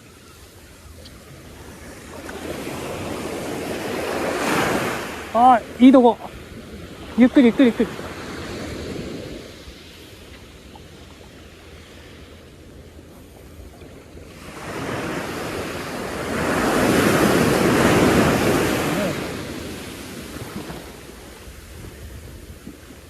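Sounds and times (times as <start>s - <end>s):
ocean waves breaking on beach: 0.0s - 23.0s.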